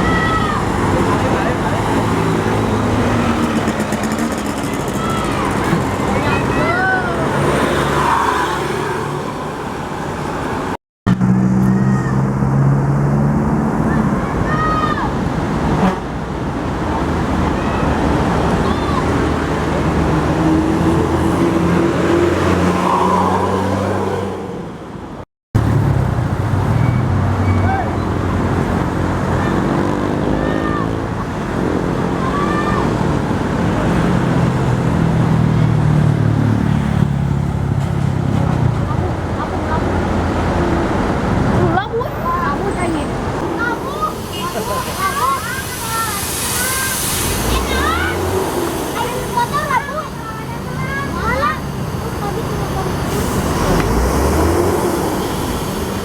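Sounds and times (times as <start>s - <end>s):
bus engines droning: 0.0s - 56.0s.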